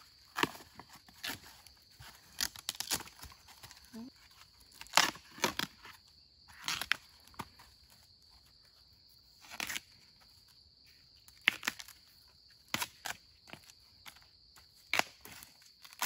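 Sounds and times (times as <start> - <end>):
bamboo husks tearing: 0.0 - 8.0, 9.4 - 10.2, 11.3 - 16.0.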